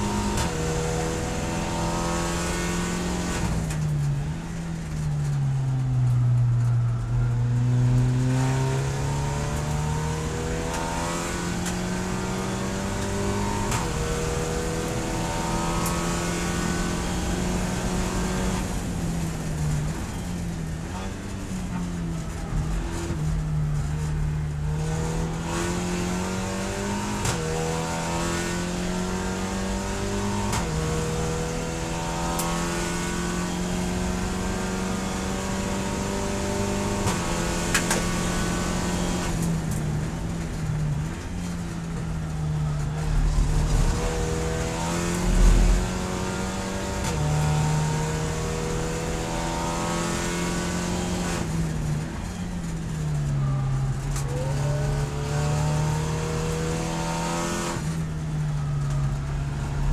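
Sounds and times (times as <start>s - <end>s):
race car engine accelerating: 4.9s - 20.2s, 20.8s - 59.9s.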